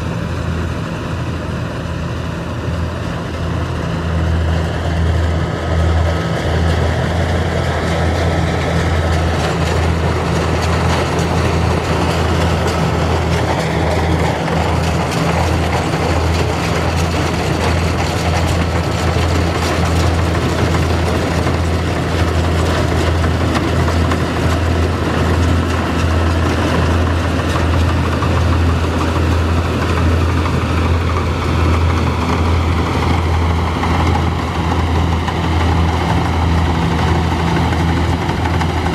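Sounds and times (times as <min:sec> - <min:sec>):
diesel engine humming: 0:00.0 - 0:38.9
machinery noise: 0:00.0 - 0:38.9.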